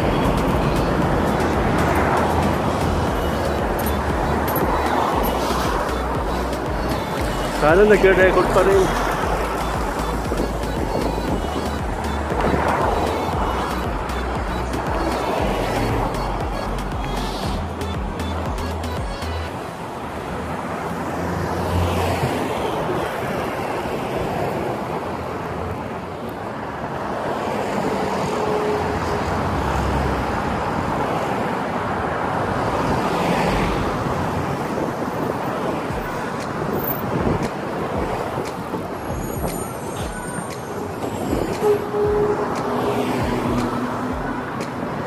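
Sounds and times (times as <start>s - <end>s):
cars driving past: 0.0s - 45.0s.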